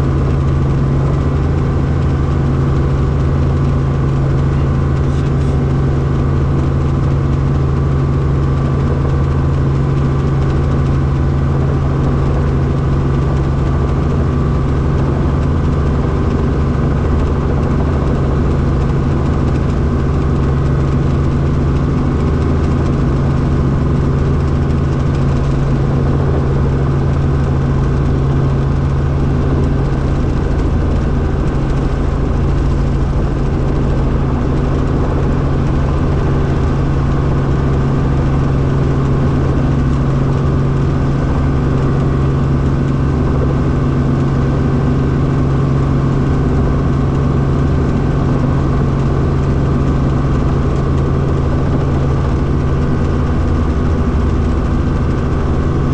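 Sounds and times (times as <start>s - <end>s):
helicopter engine and rotor hum: 0.0s - 55.9s.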